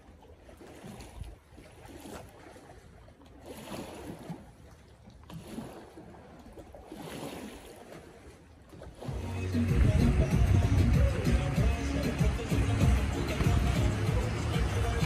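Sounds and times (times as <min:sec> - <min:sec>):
lake waves lapping: 0:00.0 - 0:15.0.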